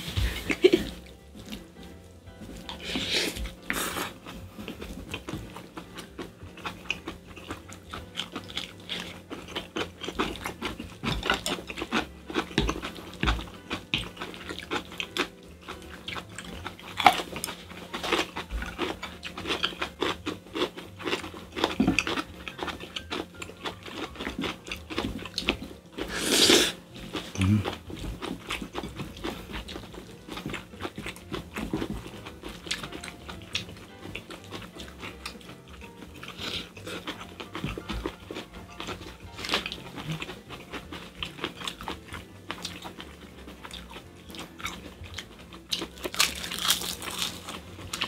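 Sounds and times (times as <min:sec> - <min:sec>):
chewing and mouth smacks: 0:02.4 - 0:48.0.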